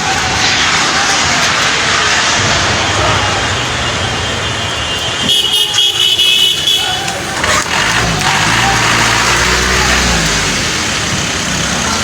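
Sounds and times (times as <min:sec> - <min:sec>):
floodwater rushing in river: 0:00.0 - 0:12.0.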